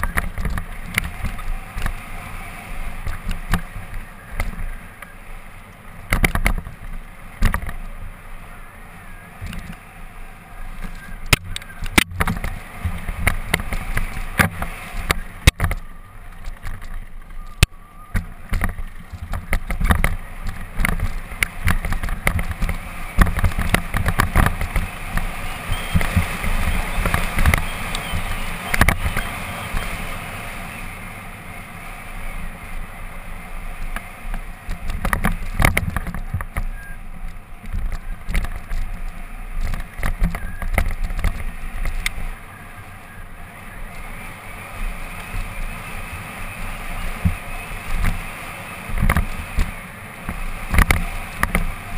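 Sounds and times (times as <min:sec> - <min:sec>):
bike rattling over rocks: 0:00.0 - 0:05.2, 0:05.8 - 0:08.0, 0:10.6 - 0:30.4, 0:32.8 - 0:51.9
tyres rolling over gravel: 0:00.0 - 0:51.9.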